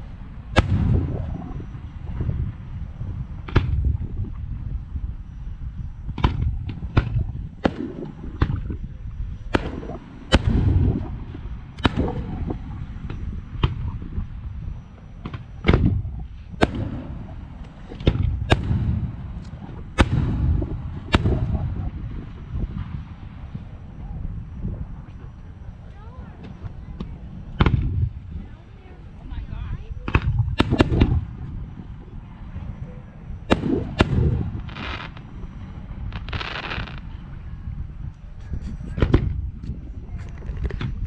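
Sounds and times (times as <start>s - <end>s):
low rumble: 0.0s - 41.0s.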